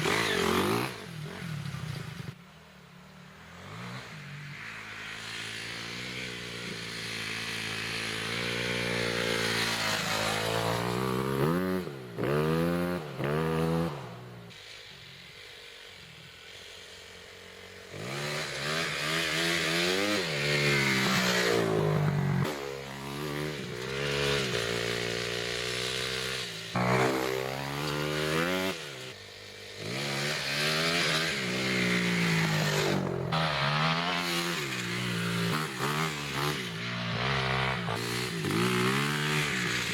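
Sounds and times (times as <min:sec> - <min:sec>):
dirt bike engine revving: 0:00.0 - 0:02.4, 0:03.5 - 0:39.9.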